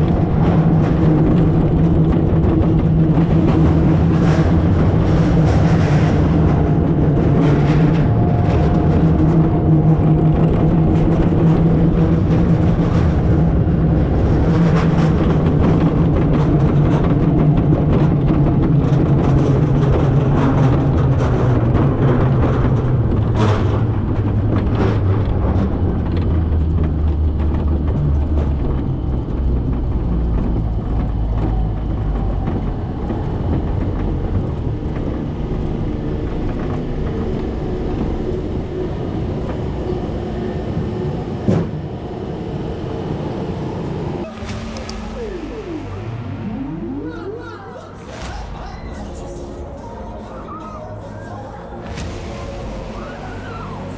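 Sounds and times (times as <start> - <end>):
roller coaster rumbling on track: 0.0 - 53.9.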